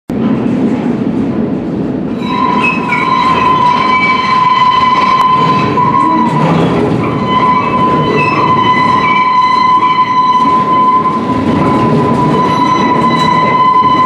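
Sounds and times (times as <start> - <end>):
train rumbling on rails: 0.1 - 14.0
high-pitched squeal: 2.2 - 14.0.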